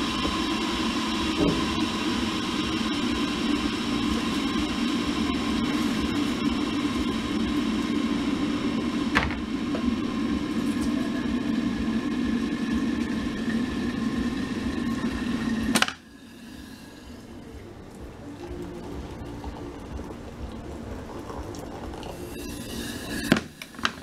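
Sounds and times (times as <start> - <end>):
electric kettle humming: 0.0 - 24.0.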